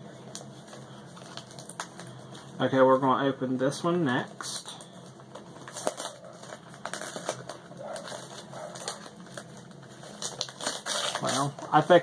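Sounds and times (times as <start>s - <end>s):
wrapping paper being torn: 0.2s - 2.3s, 4.4s - 12.0s.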